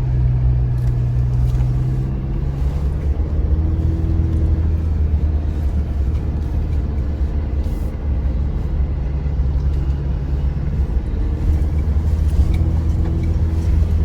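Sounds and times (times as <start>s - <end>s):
truck engine running at low speed: 0.0s - 14.0s.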